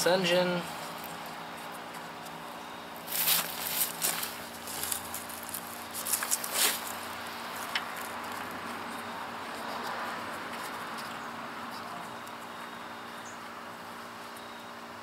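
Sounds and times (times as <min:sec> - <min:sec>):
steady background hiss: 0:00.0 - 0:15.0
gloved hands rustling and scraping: 0:00.6 - 0:12.8.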